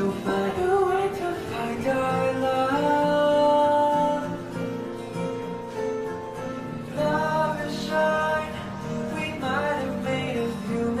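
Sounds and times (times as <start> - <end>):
person singing with instruments: 0.0 - 11.0.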